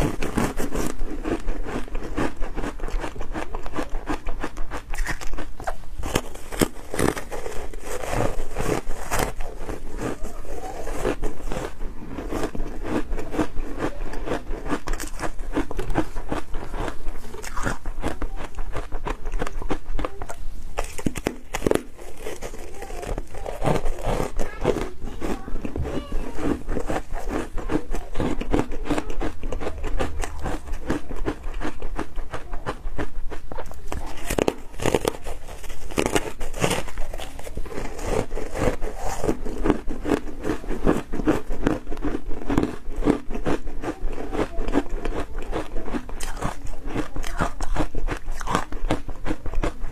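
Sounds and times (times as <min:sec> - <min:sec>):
chewing and crunching ice: 0:00.0 - 0:49.9.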